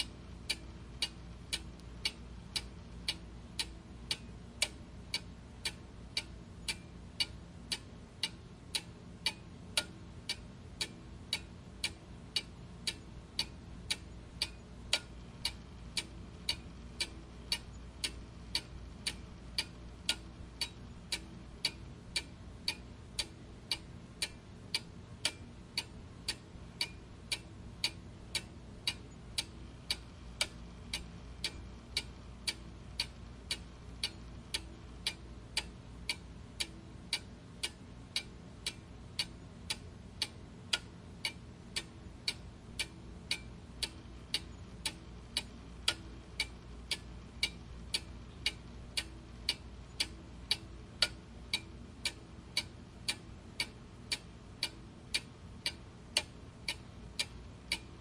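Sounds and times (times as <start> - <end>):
clock ticking: 0.0 - 58.0
faint low hum: 0.0 - 58.0.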